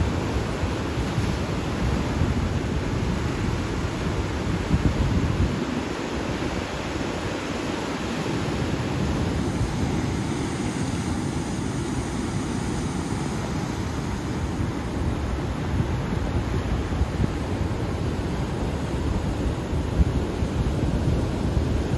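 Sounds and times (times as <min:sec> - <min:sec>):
ocean surf rushing over rocks: 0:00.0 - 0:21.9.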